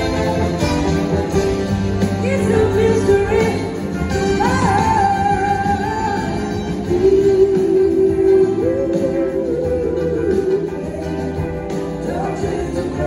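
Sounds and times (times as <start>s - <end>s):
drums: 0.0s - 13.0s
electric guitars: 0.0s - 13.0s
keyboards: 0.0s - 13.0s
live band playing: 0.0s - 13.0s
person singing: 2.1s - 13.0s.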